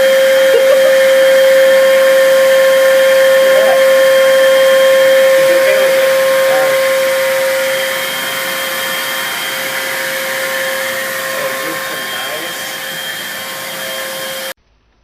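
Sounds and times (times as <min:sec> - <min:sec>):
vacuum cleaner running: 0:00.0 - 0:14.6.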